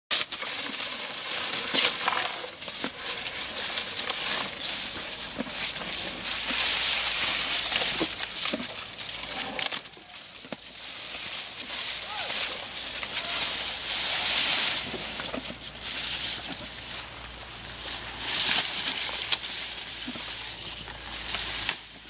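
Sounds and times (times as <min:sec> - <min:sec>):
crackles: 0:00.1 - 0:22.0
elephant chewing and crunching: 0:00.1 - 0:22.0
elephant trunk rustling grass: 0:00.1 - 0:22.0.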